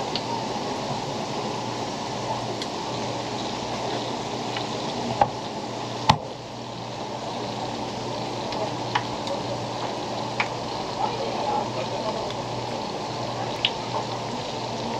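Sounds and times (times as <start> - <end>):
hot oil hissing: 0.0 - 14.9.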